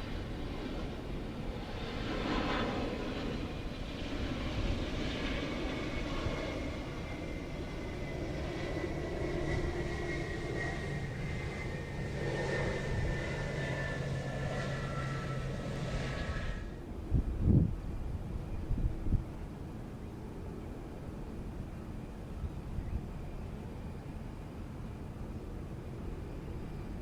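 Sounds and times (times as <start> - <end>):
airliner engines passing: 0.0 - 27.0.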